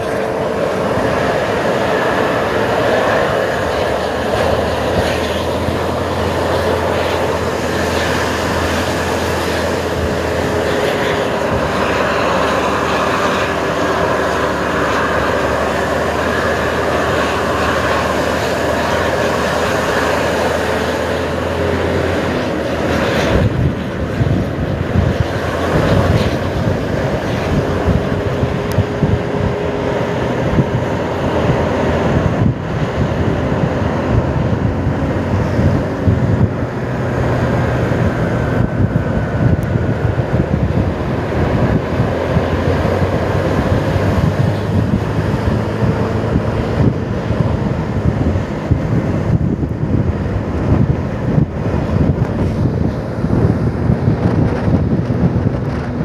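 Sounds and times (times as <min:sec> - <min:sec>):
road and engine noise: 0:00.0 - 0:56.0
wind buffeting microphone: 0:00.0 - 0:56.0.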